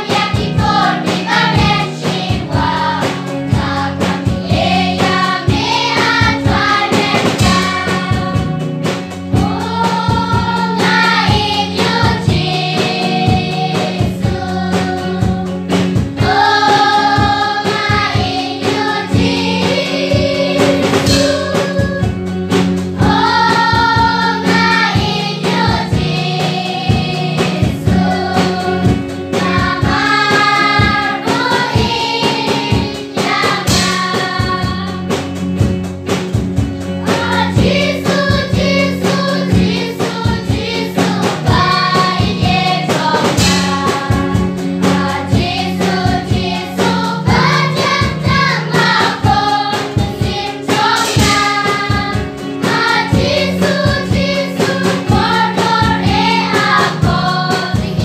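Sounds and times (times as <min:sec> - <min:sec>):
children's choir singing: 0:00.0 - 0:22.2, 0:22.9 - 0:35.2, 0:37.0 - 0:58.0
accompaniment with steady beat: 0:00.0 - 0:58.0.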